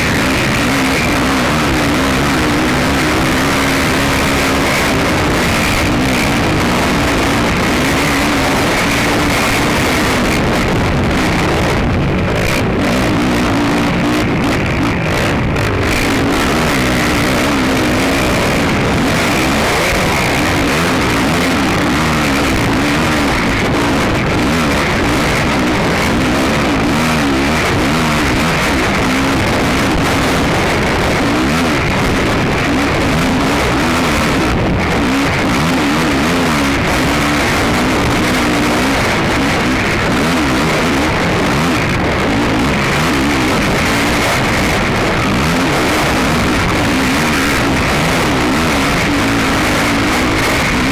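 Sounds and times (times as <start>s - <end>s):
quad engine revving: 0.0s - 50.9s
terrain noise: 0.0s - 50.9s
wind noise: 0.0s - 50.9s.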